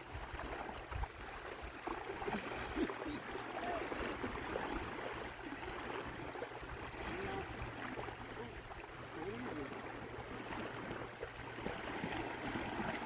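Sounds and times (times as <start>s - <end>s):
surf washing: 0.0s - 13.0s.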